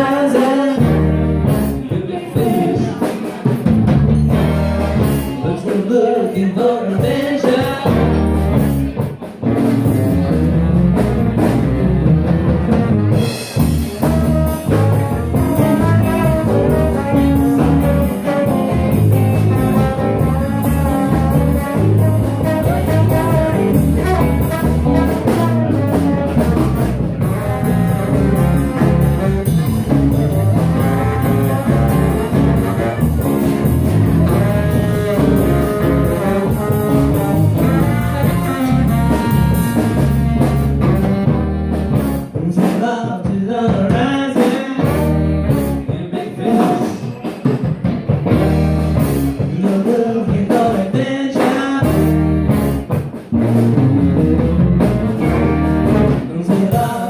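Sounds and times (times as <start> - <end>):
live blues-rock band playing: 0.0 - 57.0.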